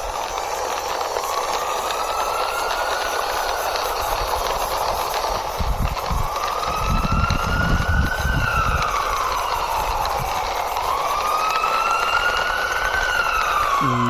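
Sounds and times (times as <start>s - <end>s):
fire engine siren wailing: 0.0s - 14.0s.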